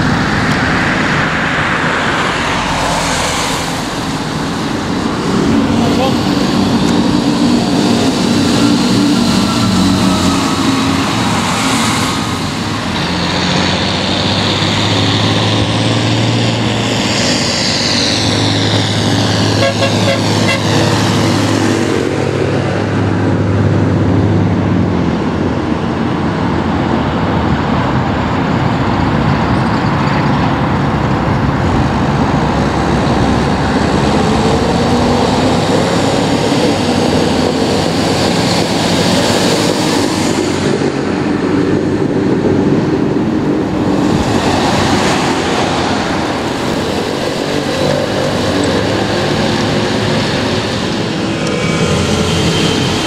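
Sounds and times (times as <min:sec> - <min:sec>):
approaching engine rising in pitch: 0:00.0 - 0:53.0
road traffic noise: 0:00.0 - 0:53.0
tractor diesel engine passing: 0:00.0 - 0:53.0.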